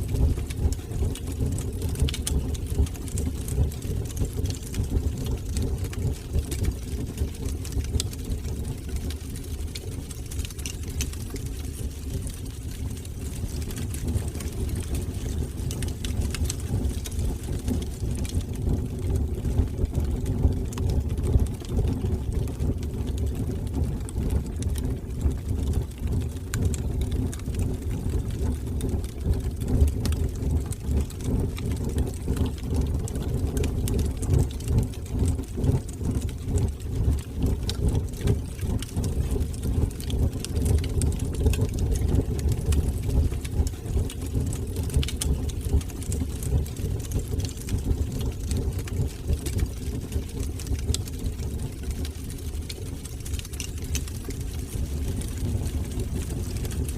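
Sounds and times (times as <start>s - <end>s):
fire crackling in fireplace: 0.0s - 56.9s.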